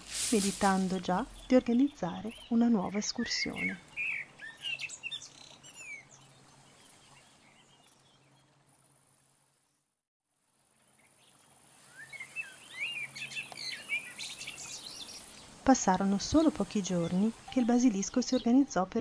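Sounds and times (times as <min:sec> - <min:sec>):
birds chirping: 0:00.0 - 0:08.5, 0:11.9 - 0:19.0.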